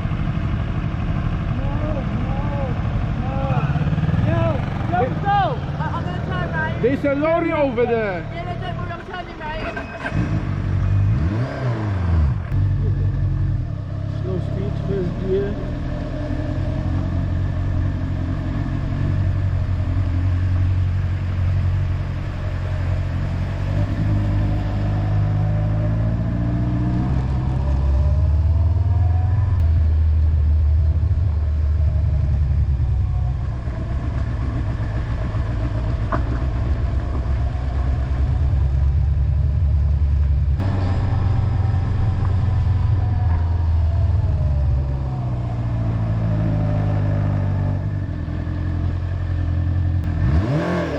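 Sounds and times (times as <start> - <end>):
motorcycle engine running: 0.0 - 11.4, 12.0 - 50.9
wind and road noise: 0.0 - 50.9.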